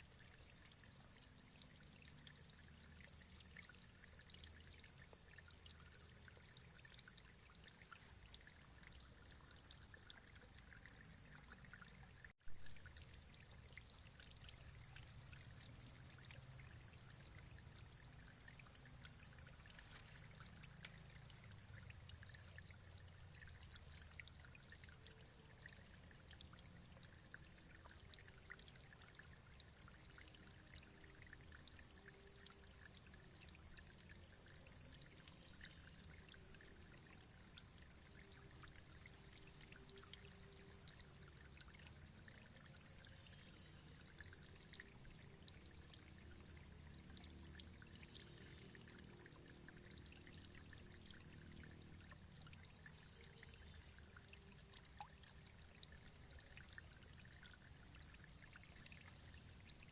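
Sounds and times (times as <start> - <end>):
stream trickling and splashing: 0.0 - 59.9.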